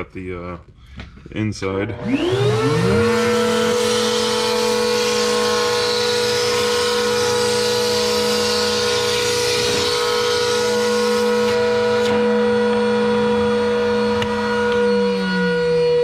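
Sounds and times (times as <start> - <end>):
router cutting hiss: 1.9 - 16.0
router running: 1.9 - 16.0.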